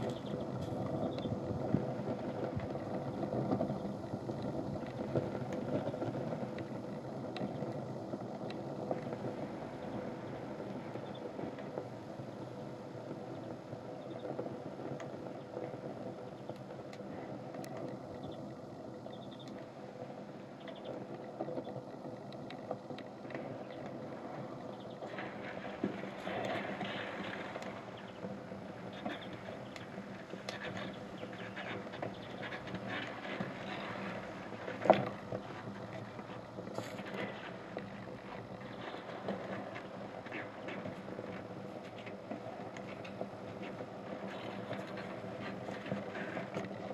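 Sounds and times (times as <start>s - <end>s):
fire crackling and popping: 0.0s - 46.9s
fire rushing: 0.0s - 46.9s.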